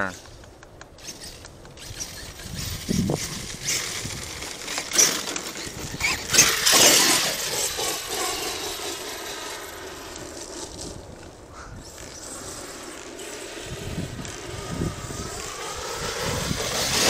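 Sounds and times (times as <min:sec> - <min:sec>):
electric motor whining: 0:01.0 - 0:17.0
tyres scraping through debris: 0:01.0 - 0:17.0.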